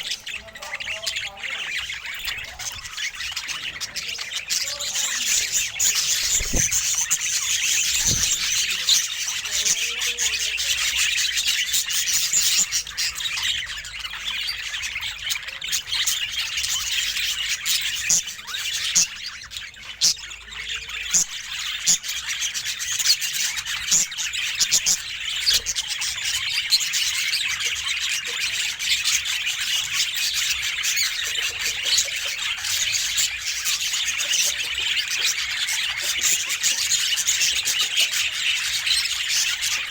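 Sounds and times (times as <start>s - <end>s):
budgerigar chirps and squawks: 0.0s - 39.9s.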